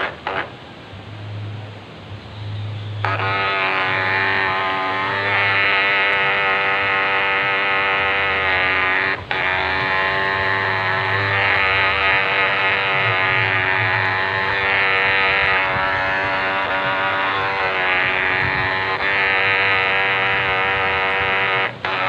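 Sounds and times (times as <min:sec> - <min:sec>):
model boat motor running: 0:00.0 - 0:22.0.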